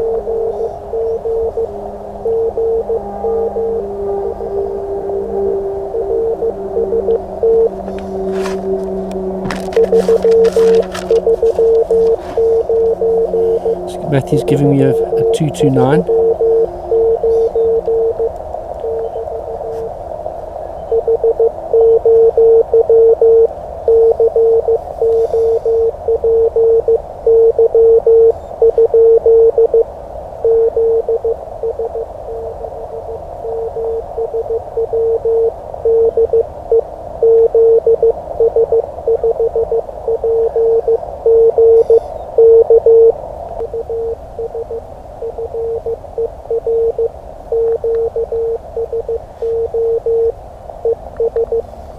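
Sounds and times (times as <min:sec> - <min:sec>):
receiver hiss: 0:00.0 - 0:03.7, 0:05.2 - 0:51.9
morse code tone: 0:00.0 - 0:19.9, 0:20.8 - 0:51.7.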